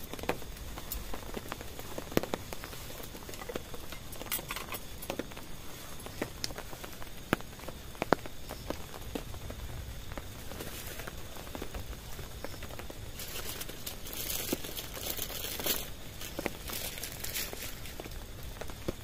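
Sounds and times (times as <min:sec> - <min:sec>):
rain pattering on a tent: 0:00.0 - 0:19.0.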